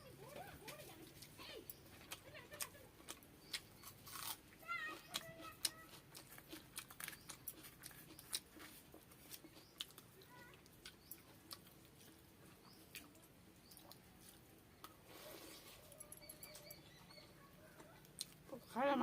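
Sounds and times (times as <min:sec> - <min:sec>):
person chewing: 0:00.9 - 0:18.5.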